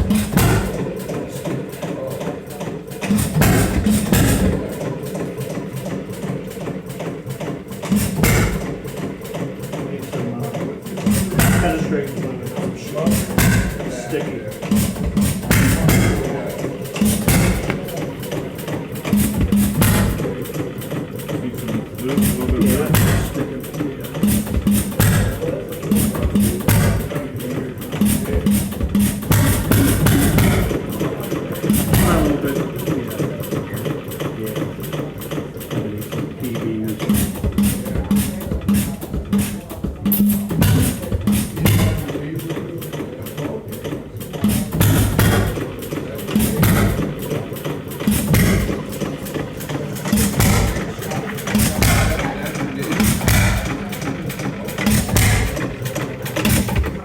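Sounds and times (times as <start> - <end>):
stationary gas engine firing: 0.0 - 57.0.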